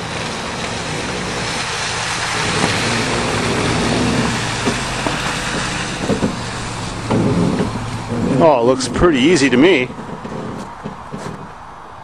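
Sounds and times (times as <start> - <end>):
vehicle engine running: 0.0 - 11.4
tyre and road noise: 0.0 - 12.0.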